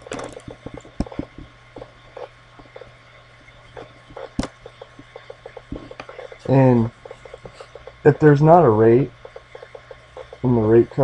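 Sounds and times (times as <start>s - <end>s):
computer mouse clicks and scrolling: 0.0s - 11.0s
low electrical hum: 0.0s - 11.0s.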